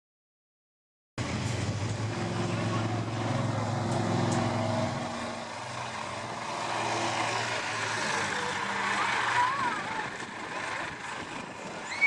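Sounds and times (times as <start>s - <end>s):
truck engine running: 1.2s - 12.0s.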